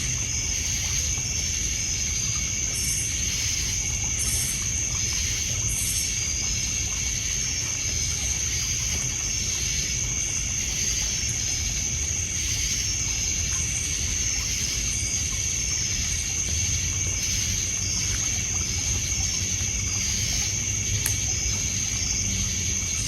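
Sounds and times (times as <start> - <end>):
insects trilling: 0.0 - 23.0
water lapping on pebbles: 3.7 - 23.0.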